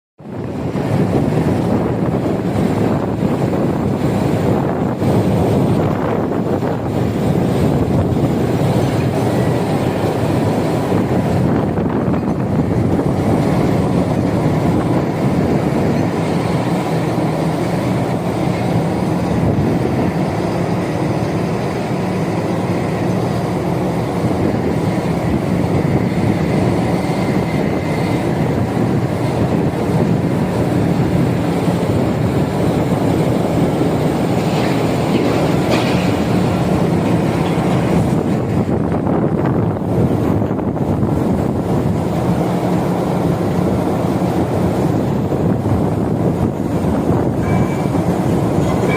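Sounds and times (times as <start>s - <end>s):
crane mechanical running noise: 0.2s - 48.9s.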